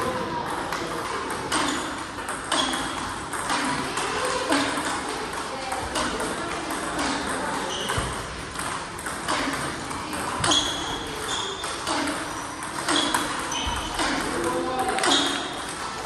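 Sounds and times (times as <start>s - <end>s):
ping-pong balls bouncing on table: 0.0s - 16.0s
ping-pong balls clicking off bats: 0.0s - 16.0s.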